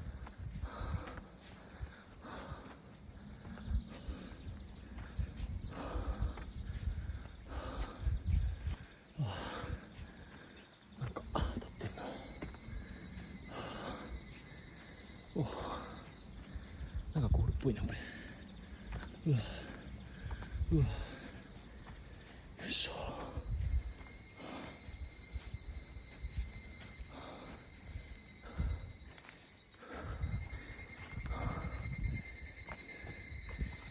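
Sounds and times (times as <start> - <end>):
footsteps on a forest trail: 0.0 - 33.9
insects chirring: 0.0 - 33.9.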